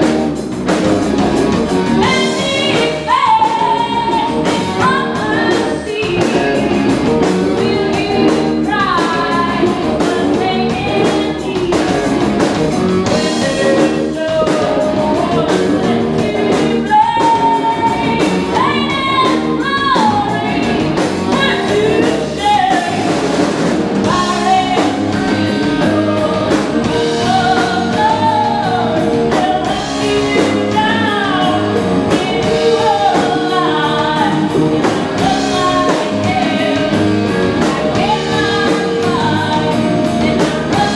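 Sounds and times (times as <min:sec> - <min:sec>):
bass guitar: 0:00.0 - 0:40.9
drum kit: 0:00.0 - 0:40.9
electric guitar: 0:00.0 - 0:40.9
woman singing: 0:02.0 - 0:23.3, 0:24.0 - 0:40.9.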